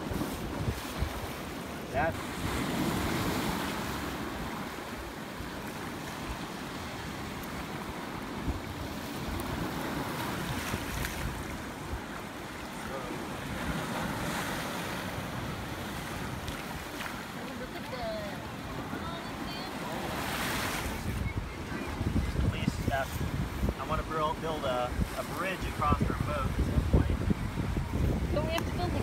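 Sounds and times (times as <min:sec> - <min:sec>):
small waves washing on shore: 0:00.0 - 0:29.0
wind buffeting microphone: 0:00.0 - 0:29.0.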